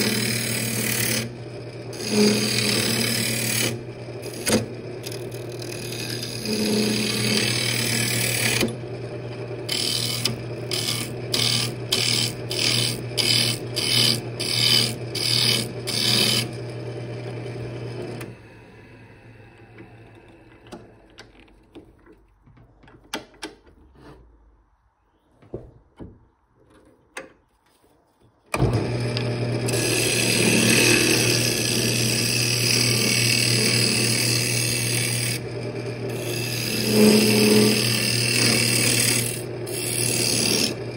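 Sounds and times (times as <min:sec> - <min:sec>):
wood lathe humming: 0:00.0 - 0:21.2, 0:28.6 - 0:40.9
turning tool cutting wood: 0:00.0 - 0:21.6, 0:28.5 - 0:40.9.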